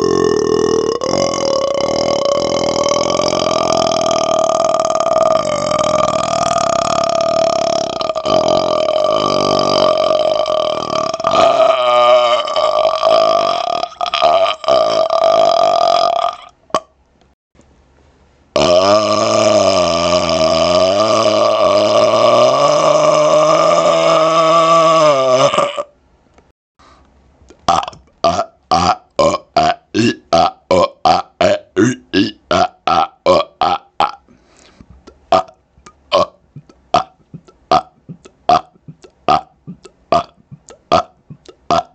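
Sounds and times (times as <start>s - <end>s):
man burping: 0.0s - 17.0s, 18.6s - 26.0s, 27.5s - 41.9s.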